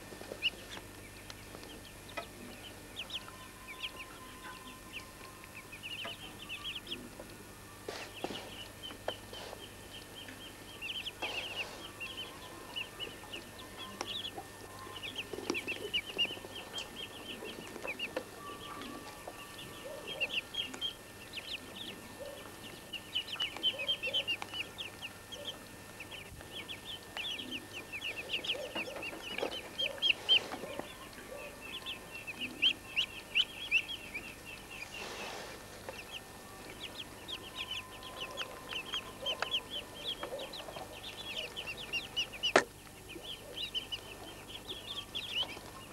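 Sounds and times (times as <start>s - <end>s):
ducklings peeping: 0.0s - 45.9s.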